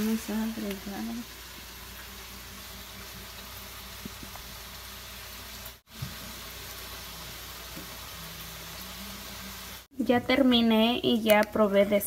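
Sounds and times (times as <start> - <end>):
meat sizzling in a pan: 0.0 - 9.9.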